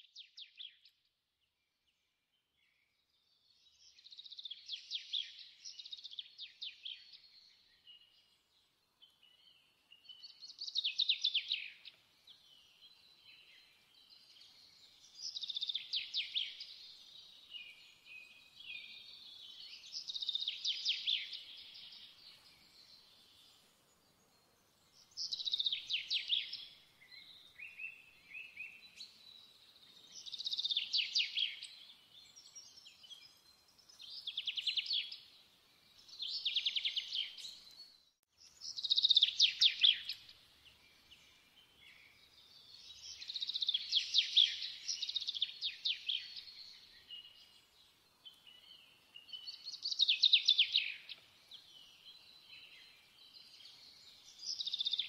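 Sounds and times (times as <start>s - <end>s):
songbird singing trilled phrases: 9.0s - 23.6s, 24.9s - 55.0s.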